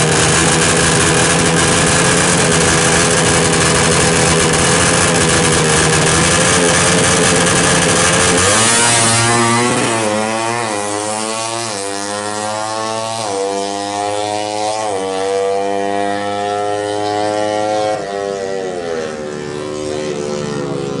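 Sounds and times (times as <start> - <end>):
motorcycle engine revving and accelerating: 0.0 - 21.0.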